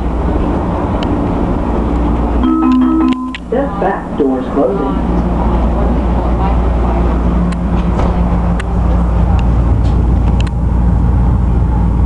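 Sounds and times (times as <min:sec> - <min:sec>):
railcar rumble and drone: 0:00.0 - 0:12.0.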